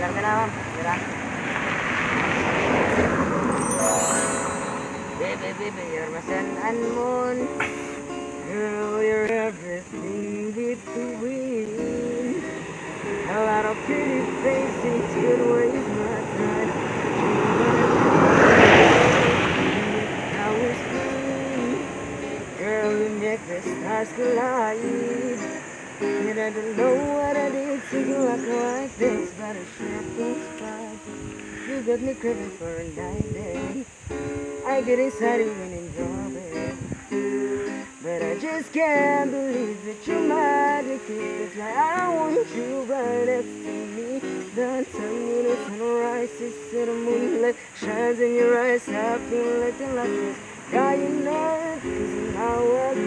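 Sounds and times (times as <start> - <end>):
acoustic guitar: 0.0 - 53.0
person singing: 3.5 - 12.6, 13.2 - 33.9, 34.6 - 53.0.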